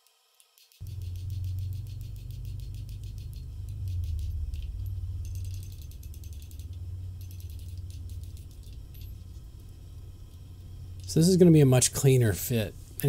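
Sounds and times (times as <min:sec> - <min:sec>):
hot steel crackling as it cools: 0:00.2 - 0:13.0
low steady hum: 0:00.8 - 0:13.0.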